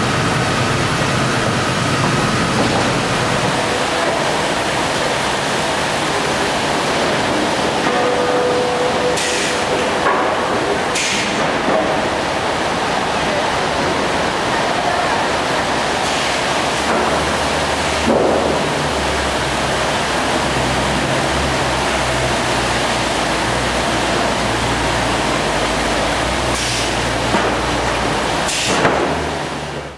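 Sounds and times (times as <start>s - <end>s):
sawmill machinery running: 0.0s - 29.9s.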